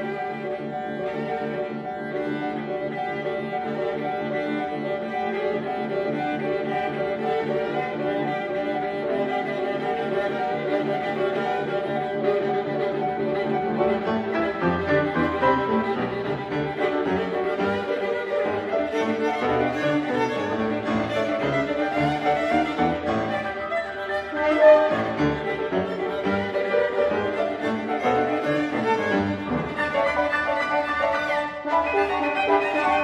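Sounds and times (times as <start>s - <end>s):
piano: 0.0s - 33.0s
viola bowing: 0.0s - 33.0s.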